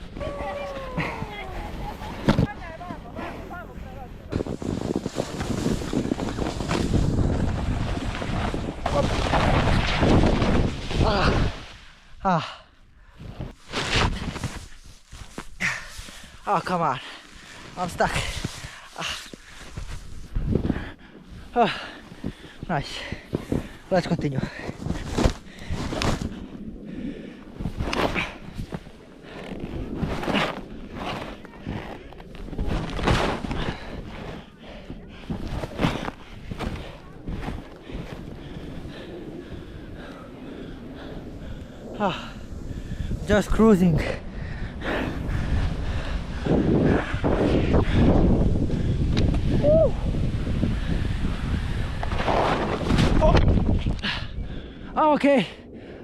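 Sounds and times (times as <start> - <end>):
wind buffeting microphone: 0.0 - 11.7, 19.7 - 56.0
snowboard scraping over snow: 0.0 - 11.8, 13.3 - 26.5, 27.5 - 41.4, 44.9 - 53.9.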